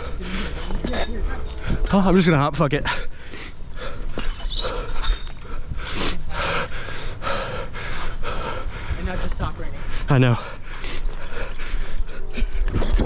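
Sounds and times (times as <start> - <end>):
person panting: 0.0 - 1.9, 2.9 - 12.8.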